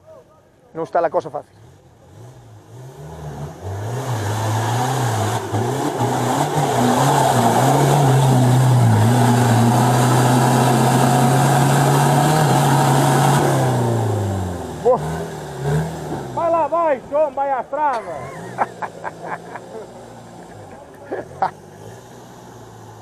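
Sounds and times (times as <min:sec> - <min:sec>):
engine revving: 0:01.4 - 0:23.0.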